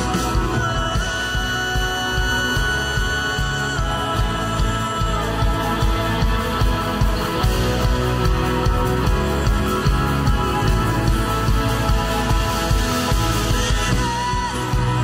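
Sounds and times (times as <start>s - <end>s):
bass guitar: 0.0s - 15.0s
electric guitar: 0.0s - 15.0s
live worship band music: 0.0s - 15.0s.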